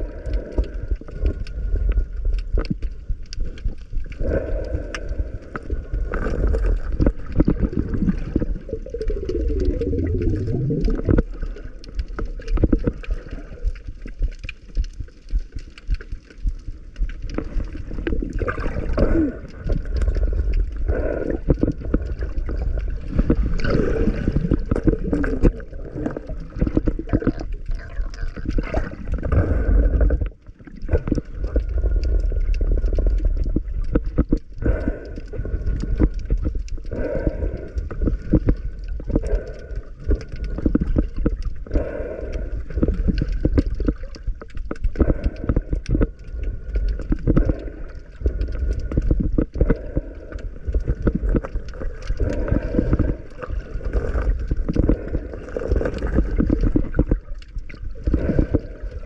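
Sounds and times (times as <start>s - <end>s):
small irregular clicks: 0.0s - 59.0s
water gurgling and sloshing: 0.0s - 59.0s.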